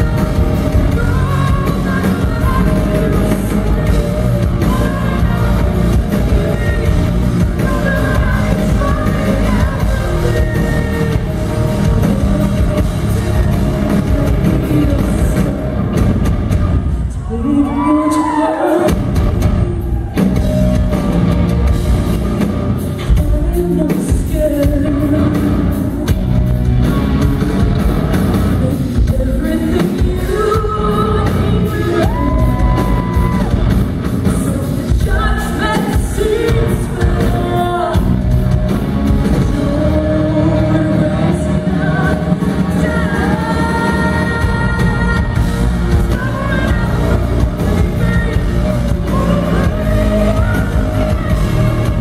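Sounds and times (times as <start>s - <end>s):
woman singing lead vocal: 0.0s - 21.0s, 23.0s - 52.0s
bass guitar: 0.0s - 52.0s
drums: 0.0s - 52.0s
electric guitar: 0.0s - 52.0s.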